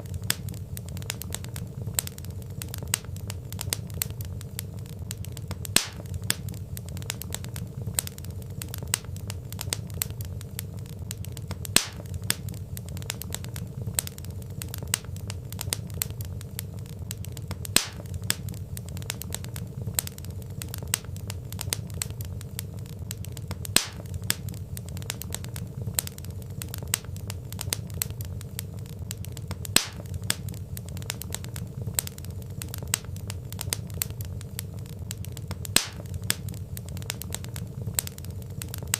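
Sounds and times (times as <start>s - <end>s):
burning logs crackling: 0.0s - 38.9s
low rumble of flames: 0.0s - 38.9s
sharp pops of fire: 0.0s - 38.9s.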